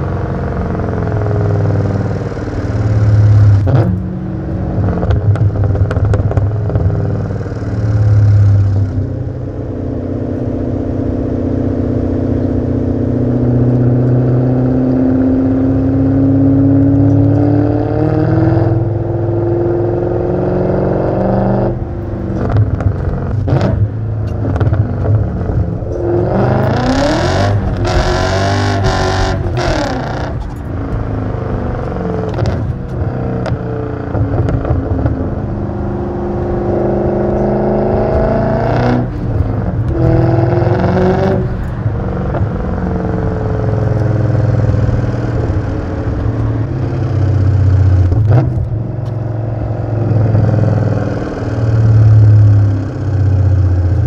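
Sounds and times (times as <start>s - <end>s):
car exhaust accelerating: 0.0s - 54.0s.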